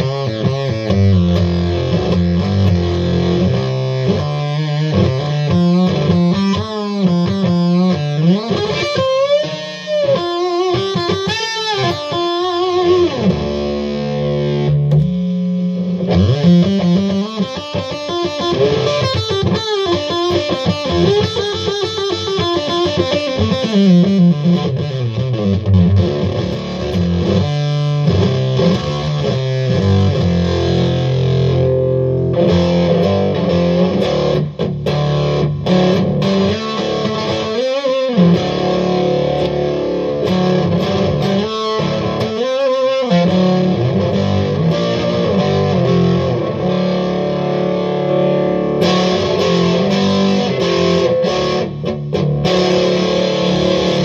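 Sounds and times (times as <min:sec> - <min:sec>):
distorted electric guitar chords: 0:00.0 - 0:54.0.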